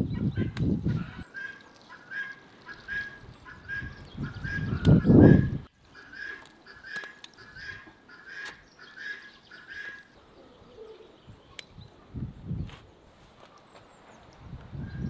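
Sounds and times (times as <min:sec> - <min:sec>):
bird chirping: 0:00.0 - 0:12.6.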